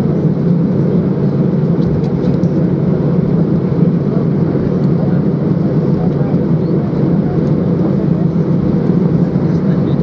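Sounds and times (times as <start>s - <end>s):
jet engines idling: 0.0s - 10.0s.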